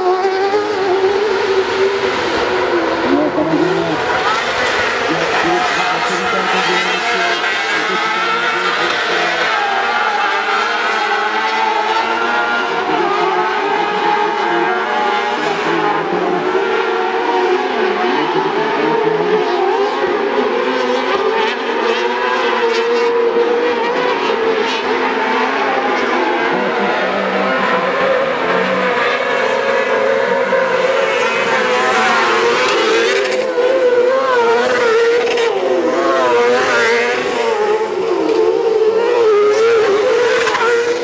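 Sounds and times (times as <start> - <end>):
high-revving buggy engines: 0.0 - 41.0.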